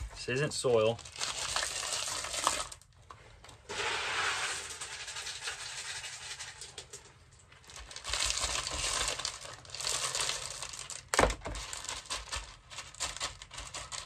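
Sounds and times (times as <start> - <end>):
clay pebbles pouring: 0.6 - 2.9, 3.6 - 14.0.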